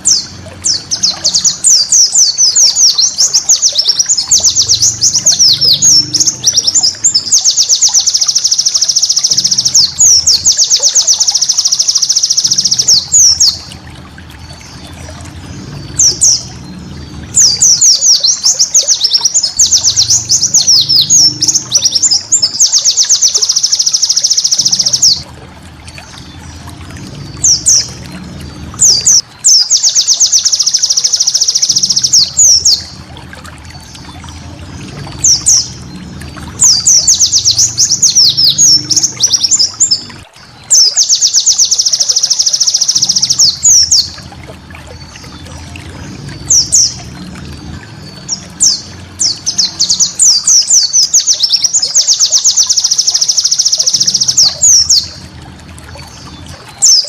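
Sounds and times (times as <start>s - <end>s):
bird chirping trills: 0.0s - 57.0s.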